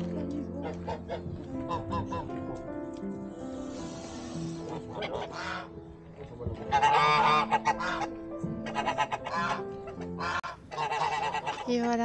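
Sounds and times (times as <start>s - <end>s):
geese honking: 0.6s - 2.5s, 3.7s - 6.0s, 6.6s - 12.0s.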